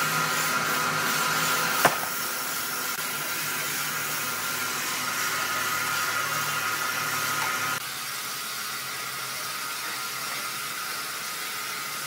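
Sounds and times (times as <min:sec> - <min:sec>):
band sawmill whirring and whining: 0:00.0 - 0:12.0.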